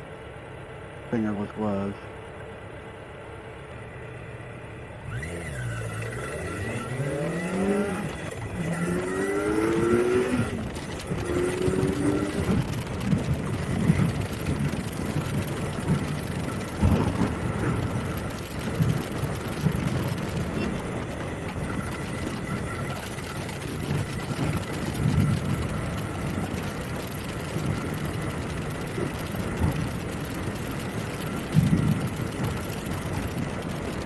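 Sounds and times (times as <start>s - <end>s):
motorcycle engine at road speed: 0.0s - 34.0s
wind buffeting microphone: 5.1s - 34.0s.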